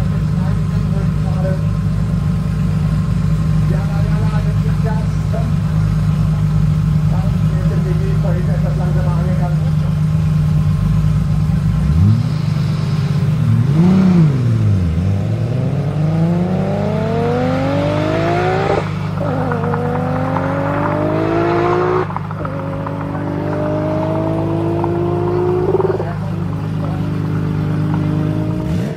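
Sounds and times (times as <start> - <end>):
car accelerating with gear shifts: 0.0 - 28.9
car engine revving: 0.0 - 28.9
low engine hum: 0.0 - 28.9.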